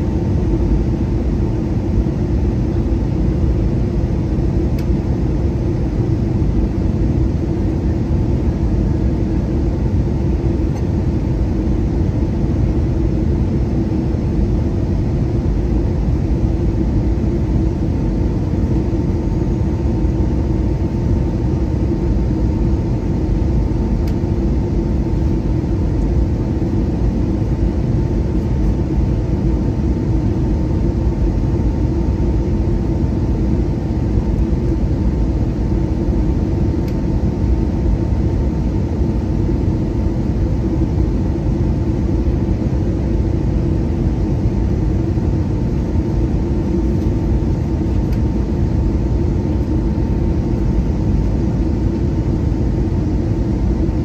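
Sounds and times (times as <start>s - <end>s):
airliner cabin engine rush: 0.0s - 54.0s
thin steady whine: 0.0s - 54.0s.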